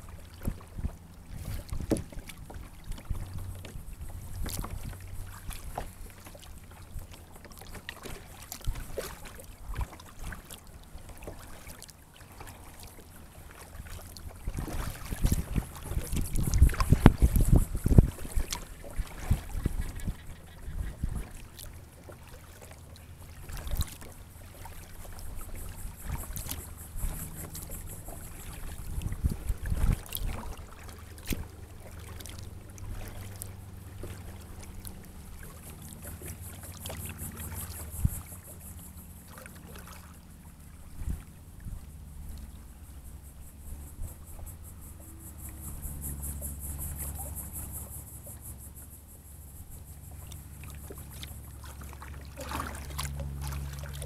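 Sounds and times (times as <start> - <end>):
wind rumble on microphone: 0.0 - 11.1, 13.3 - 21.9, 23.4 - 39.8, 40.4 - 50.6
water splashes: 0.0 - 54.0
water trickling and lapping: 0.0 - 54.0.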